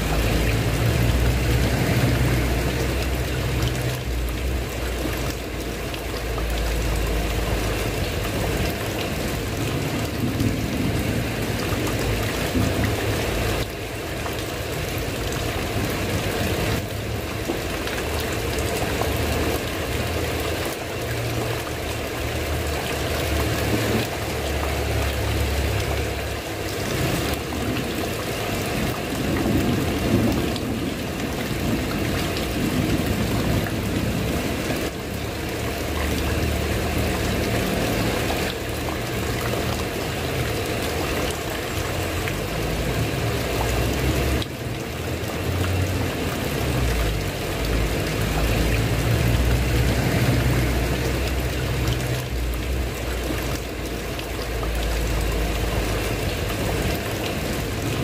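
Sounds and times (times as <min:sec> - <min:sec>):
rain on a tiled roof: 0:00.0 - 0:58.0.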